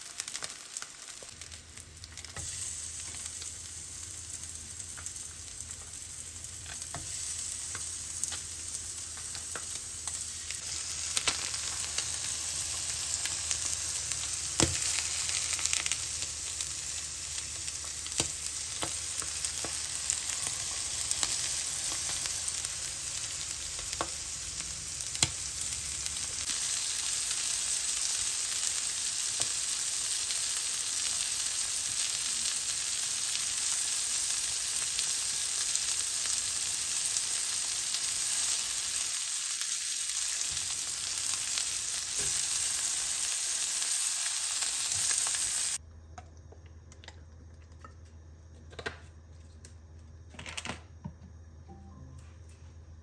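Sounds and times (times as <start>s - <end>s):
fish frying in oil: 0.0s - 45.8s.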